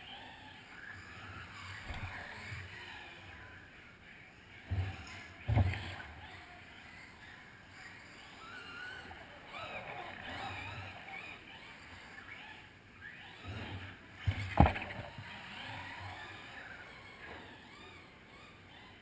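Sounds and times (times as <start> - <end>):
radio-controlled car motors whining: 0.0 - 19.0.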